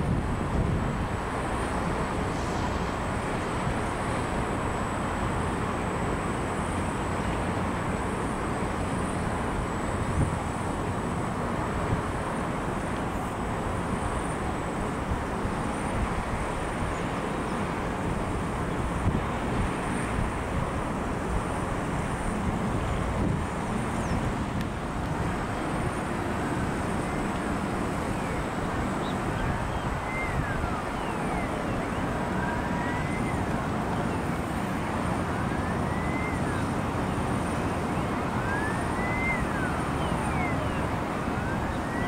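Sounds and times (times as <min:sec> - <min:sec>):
road traffic hum: 0:00.0 - 0:42.0.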